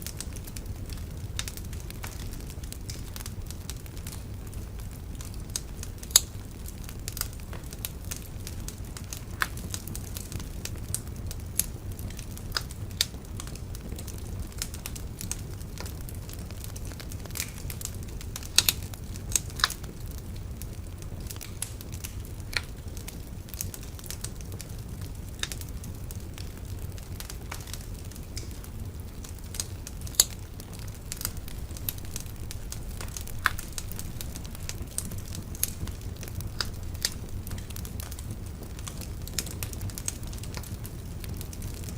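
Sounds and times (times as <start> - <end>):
bonfire crackling: 0.0 - 41.9
fire sharp pops: 0.0 - 41.9.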